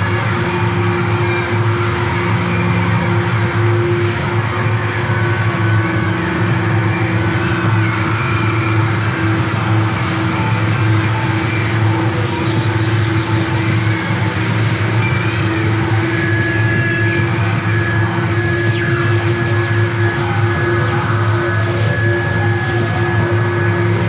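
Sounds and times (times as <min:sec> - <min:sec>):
noise drone music: 0:00.0 - 0:24.0.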